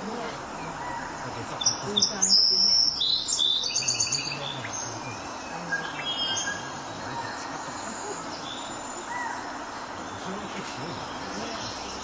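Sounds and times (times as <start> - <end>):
faint murmuring voices: 0.0 - 12.0.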